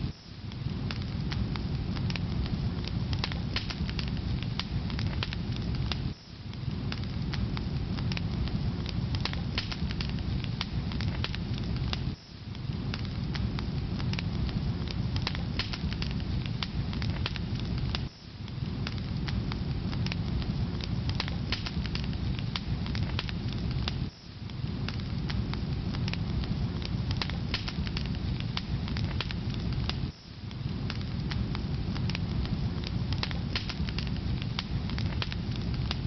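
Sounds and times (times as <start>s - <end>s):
wood fire crackling: 0.0s - 36.0s
logs popping and snapping: 0.5s - 18.1s, 18.8s - 24.1s, 24.8s - 36.0s.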